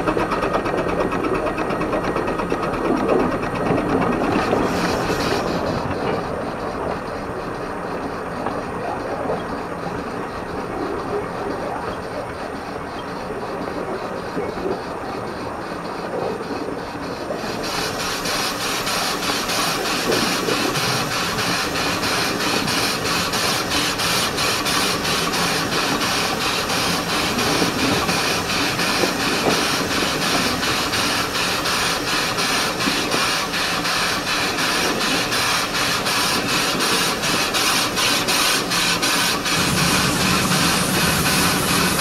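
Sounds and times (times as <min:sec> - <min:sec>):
steam exhaust chuffs: 0:00.0 - 0:42.0
steam hissing: 0:04.2 - 0:08.0, 0:08.6 - 0:42.0.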